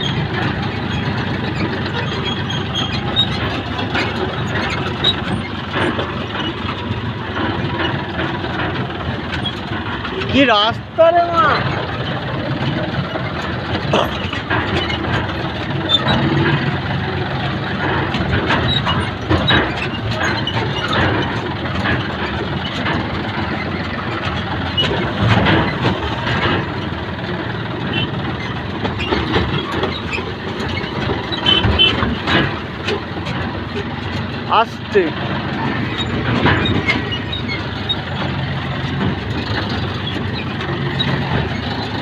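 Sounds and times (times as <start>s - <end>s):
machine engine running: 0.0s - 42.0s
metal knocks and clanks: 0.0s - 42.0s.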